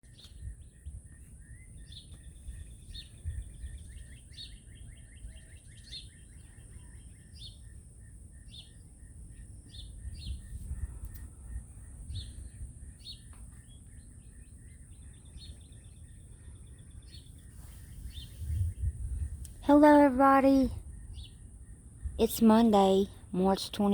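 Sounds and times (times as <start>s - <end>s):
songbirds chirping: 0.0s - 23.9s
low steady rumble: 0.1s - 23.9s.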